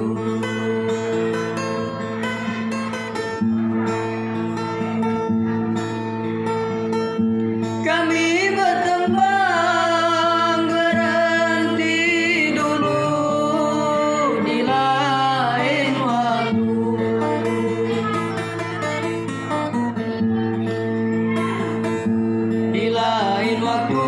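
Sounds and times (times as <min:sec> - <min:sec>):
acoustic guitar accompaniment: 0:00.0 - 0:24.0.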